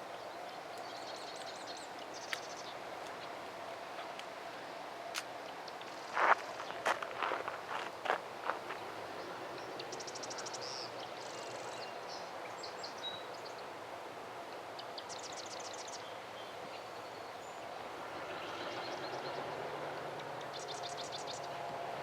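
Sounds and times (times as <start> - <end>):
small birds singing: 0.0 - 4.8, 5.4 - 13.8, 14.5 - 21.7
background hiss: 0.0 - 22.0.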